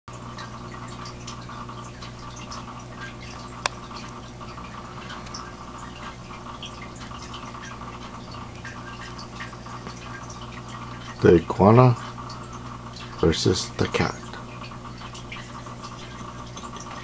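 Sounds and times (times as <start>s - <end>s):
steady low hum: 0.1s - 17.0s
water dripping: 0.1s - 17.0s.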